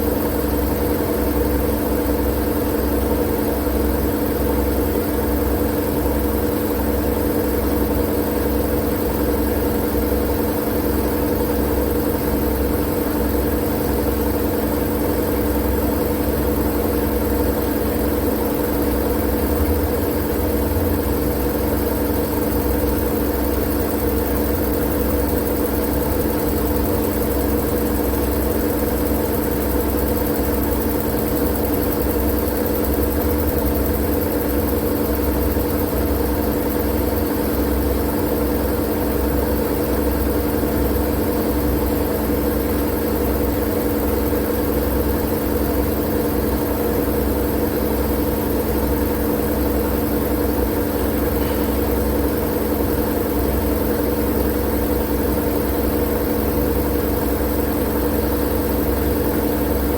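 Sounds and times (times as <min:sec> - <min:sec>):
low hum and rumble: 0:04.0 - 0:43.6, 0:45.3 - 0:59.9.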